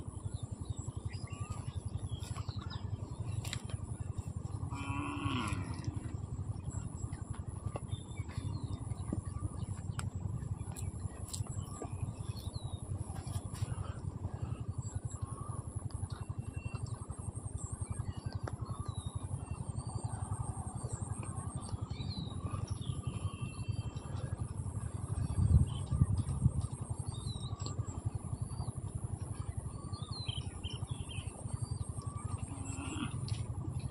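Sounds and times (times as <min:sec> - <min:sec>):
low rumble: 0:00.0 - 0:33.9.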